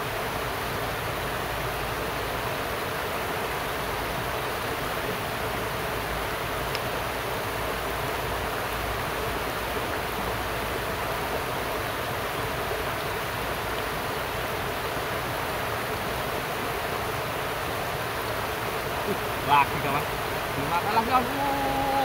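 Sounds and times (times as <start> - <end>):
river water rushing over rocks: 0.0 - 22.0.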